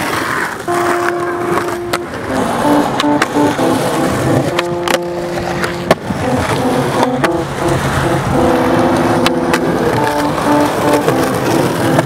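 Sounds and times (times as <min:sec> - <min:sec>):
skateboard clacks: 0:00.0 - 0:12.0
skateboard wheels rolling on concrete: 0:00.0 - 0:12.0
background music of held notes: 0:00.7 - 0:12.0.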